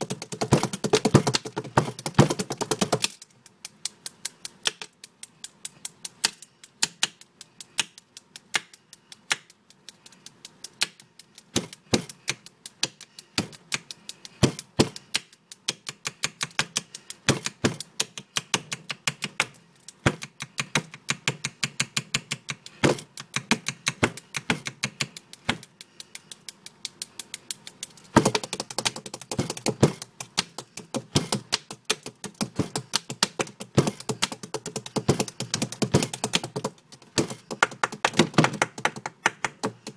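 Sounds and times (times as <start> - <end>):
rapid tapping on hard surface: 0.0 - 39.9.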